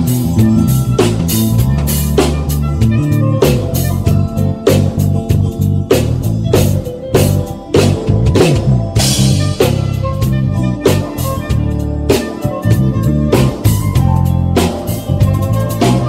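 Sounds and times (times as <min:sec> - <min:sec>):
bass guitar line: 0:00.0 - 0:16.0
drum kit beat: 0:00.0 - 0:16.0.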